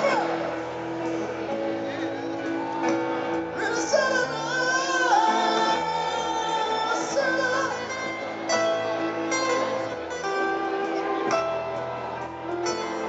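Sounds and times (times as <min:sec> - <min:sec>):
person singing: 0:00.0 - 0:01.1, 0:01.8 - 0:11.7
grand piano: 0:00.0 - 0:13.0.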